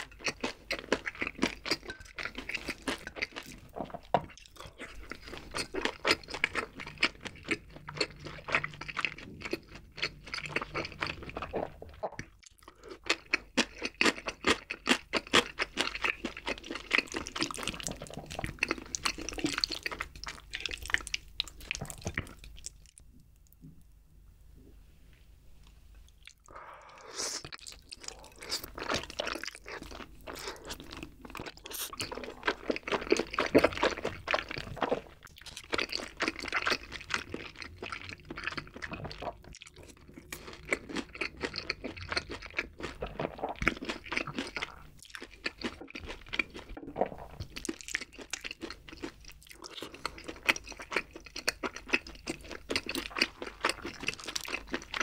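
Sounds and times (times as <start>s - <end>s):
chewing and crunching: 0.0s - 23.6s, 26.1s - 26.7s, 27.4s - 55.0s.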